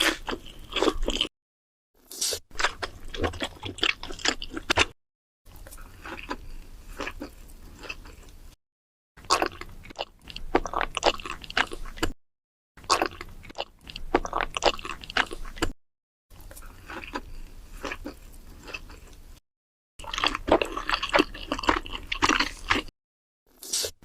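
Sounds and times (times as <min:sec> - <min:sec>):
crunchy bites: 0:00.0 - 0:01.3, 0:02.0 - 0:08.4, 0:09.2 - 0:12.2, 0:12.8 - 0:15.7, 0:16.3 - 0:19.2, 0:20.0 - 0:22.9, 0:23.5 - 0:24.0
wet chewing: 0:00.0 - 0:01.3, 0:02.0 - 0:08.4, 0:09.2 - 0:12.2, 0:12.8 - 0:19.2, 0:20.0 - 0:22.9.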